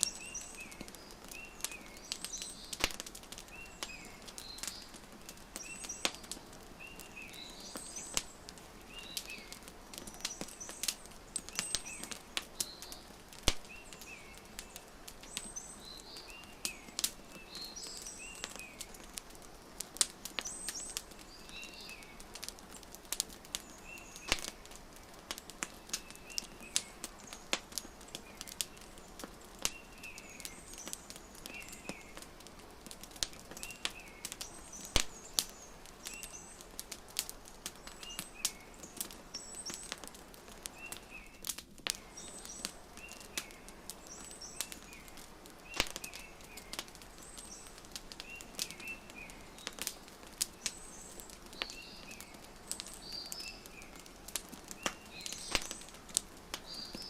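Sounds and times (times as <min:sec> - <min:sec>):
small birds chirping: 0:00.0 - 0:57.0
wood fire crackling and popping: 0:00.0 - 0:57.0.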